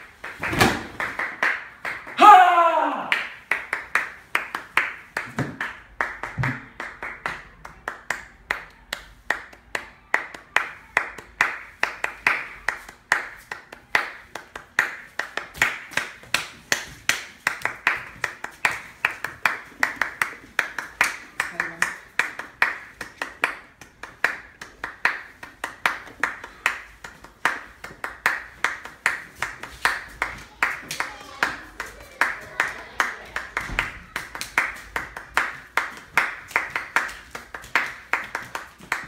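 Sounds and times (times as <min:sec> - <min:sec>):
hands clapping a steady beat: 0:00.0 - 0:02.4, 0:03.0 - 0:39.0.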